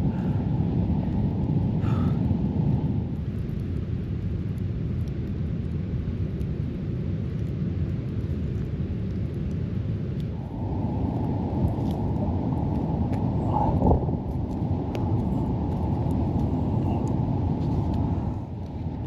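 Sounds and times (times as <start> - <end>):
low rumbling noise: 0.0 - 19.0.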